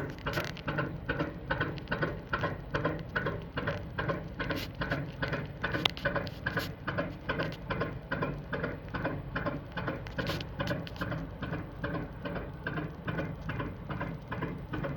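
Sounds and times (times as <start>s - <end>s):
marine diesel engine clattering: 0.0s - 14.9s.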